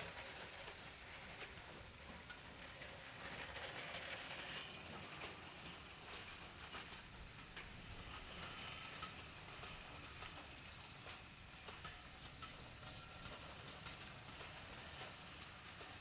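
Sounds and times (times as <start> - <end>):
low train rumble: 0.0 - 16.0
wheels clicking over rail joints: 0.0 - 16.0.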